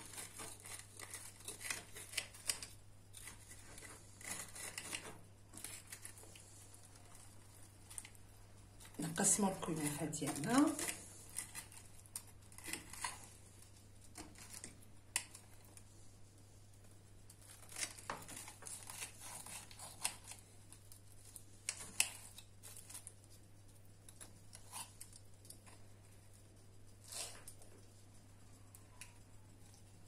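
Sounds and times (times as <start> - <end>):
pastry crackling under knife: 0.0 - 30.0.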